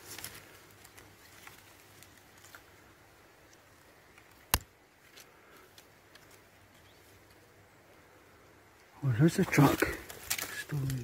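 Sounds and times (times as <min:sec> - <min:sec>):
faint ticks and crackles: 0:00.0 - 0:11.0.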